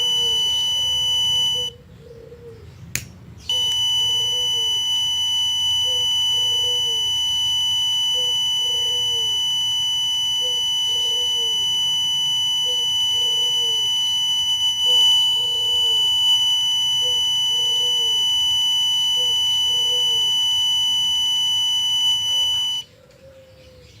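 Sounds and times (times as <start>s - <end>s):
piezo buzzer tone: 0.0s - 1.8s, 3.5s - 22.9s.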